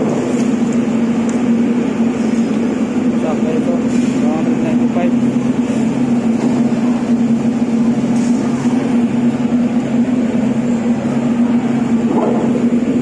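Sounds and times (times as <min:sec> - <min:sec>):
dense wash of noise: 0:00.0 - 0:13.0
loud machine hum: 0:00.0 - 0:13.0.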